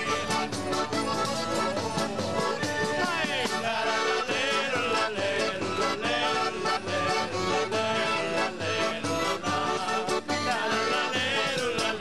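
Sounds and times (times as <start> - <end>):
accordion: 0.0 - 12.0
man singing: 1.6 - 12.0.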